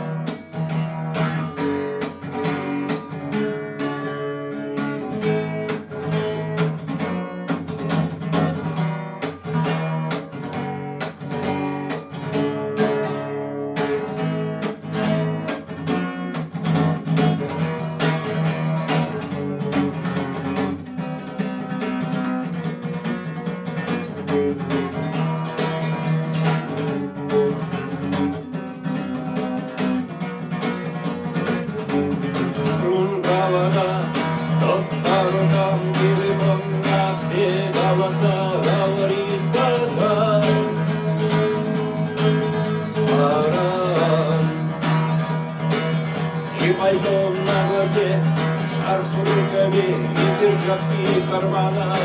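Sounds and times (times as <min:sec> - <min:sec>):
acoustic guitar strumming chords: 0:00.0 - 0:52.0.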